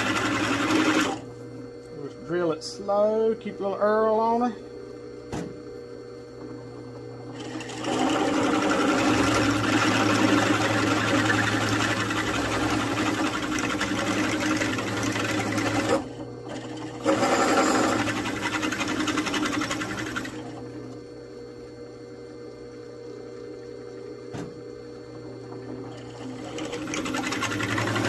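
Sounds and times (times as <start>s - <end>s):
drill press motor hum: 0.0s - 28.0s.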